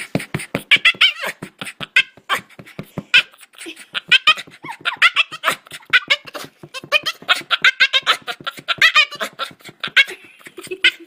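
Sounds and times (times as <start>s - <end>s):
dog whining: 0.5s - 11.0s.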